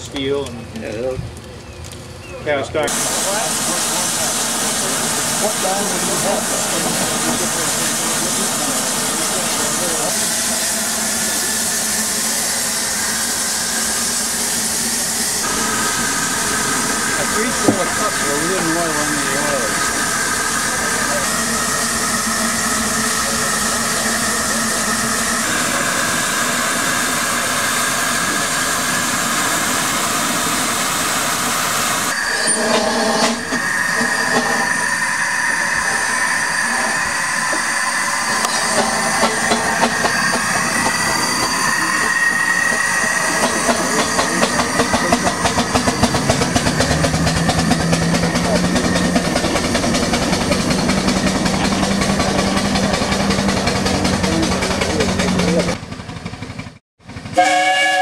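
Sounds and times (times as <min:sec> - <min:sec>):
steam exhaust beats: 0:02.8 - 0:58.0
hiss of steam: 0:02.9 - 0:53.1.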